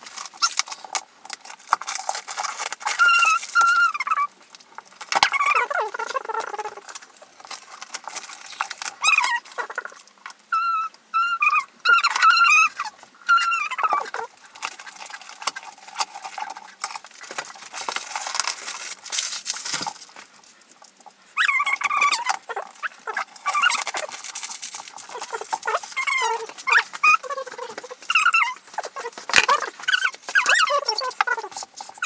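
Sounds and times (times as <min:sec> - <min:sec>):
plastic film crinkling being peeled: 0:00.0 - 0:10.4, 0:13.7 - 0:32.0.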